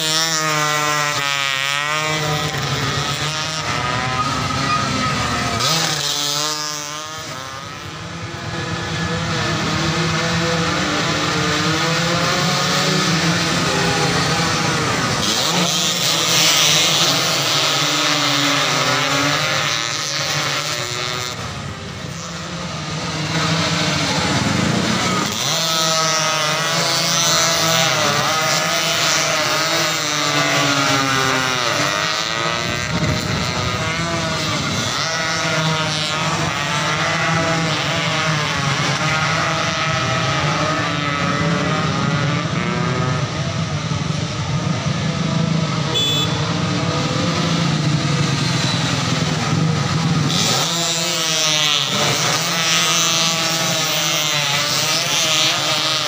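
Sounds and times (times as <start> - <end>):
racing motorcycles revving: 0.0 - 56.0.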